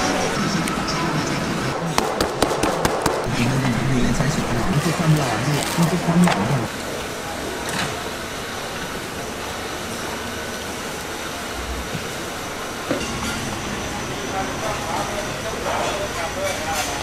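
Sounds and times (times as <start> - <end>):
busy street market noise: 0.0 - 17.0
traffic: 0.0 - 17.0.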